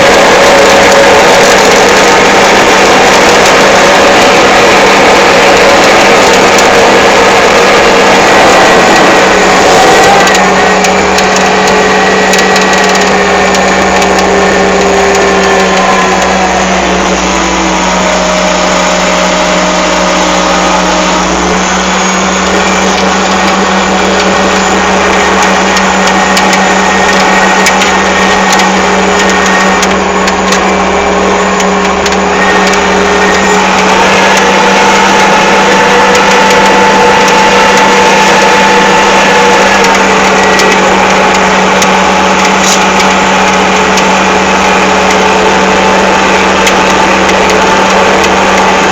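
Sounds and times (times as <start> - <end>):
excavator diesel engine running: 0.0 - 48.9
hydraulics working: 0.0 - 48.9
knocks and clicks: 0.0 - 48.9.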